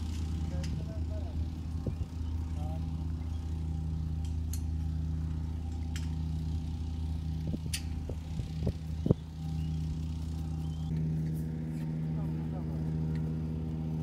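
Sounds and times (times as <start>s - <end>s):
machine engine humming: 0.0s - 14.0s.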